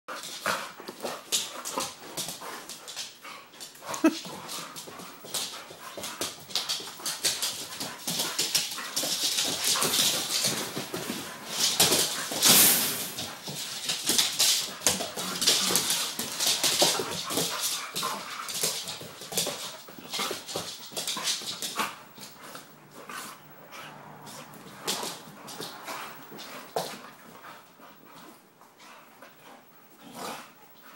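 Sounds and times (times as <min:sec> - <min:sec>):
dogs scuffling: 0:00.1 - 0:30.9.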